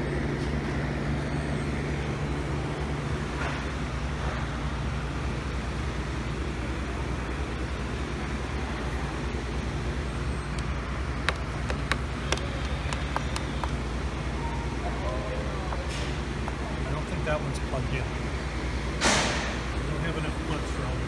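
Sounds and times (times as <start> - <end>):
store background rumble and hum: 0.0 - 21.0.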